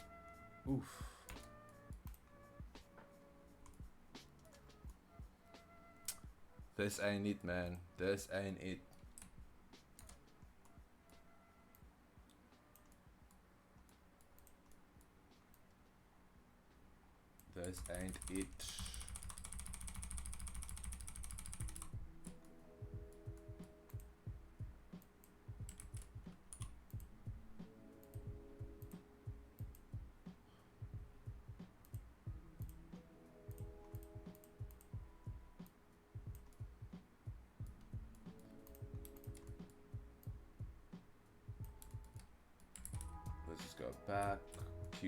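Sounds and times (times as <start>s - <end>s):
computer keyboard keys tapping: 1.3s - 6.7s, 8.8s - 15.8s, 17.5s - 45.0s.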